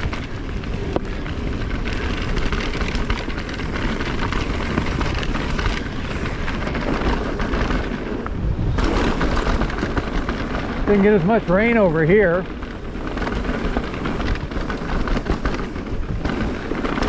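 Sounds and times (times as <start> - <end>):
bike rattles and clicks: 0.0 - 17.0
wind and tyre noise: 0.0 - 17.0.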